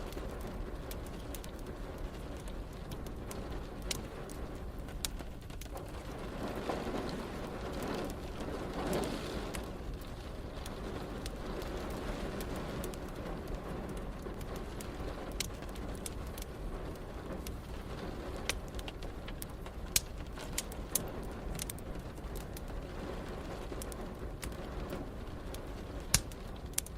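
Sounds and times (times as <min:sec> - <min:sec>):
steady rain: 0:00.0 - 0:26.9
wood fire crackling: 0:00.0 - 0:26.9.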